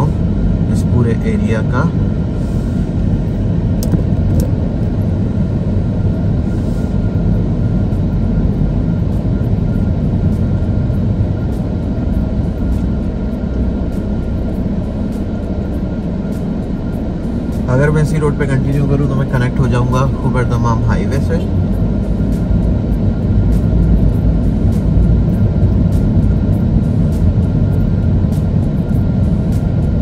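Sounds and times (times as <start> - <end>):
car driving rumble from cabin: 0.0 - 30.0
faint steady hum: 0.0 - 30.0.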